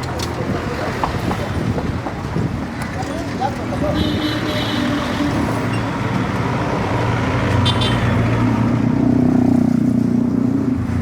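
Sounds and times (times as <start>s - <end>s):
street traffic din: 0.0s - 11.0s.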